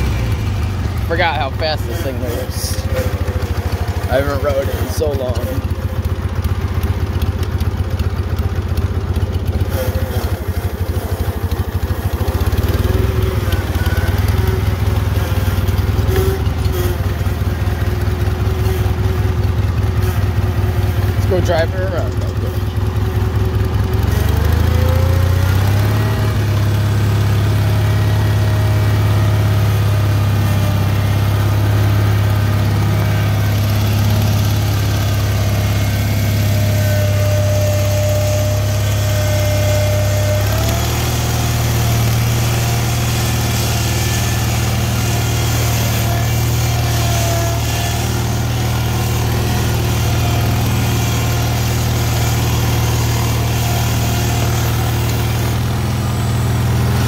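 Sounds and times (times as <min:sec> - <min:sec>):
garden tractor engine revving: 0:00.0 - 0:57.0.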